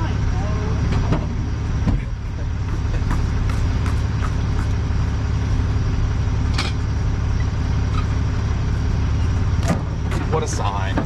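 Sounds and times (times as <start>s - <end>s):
tow truck engine idling: 0.0s - 11.0s.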